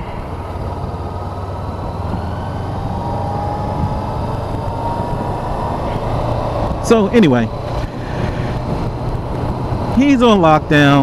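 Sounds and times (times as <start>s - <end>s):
faint whine: 0.0s - 11.0s
motorcycle engine running: 0.0s - 11.0s
wind and road noise: 0.0s - 11.0s.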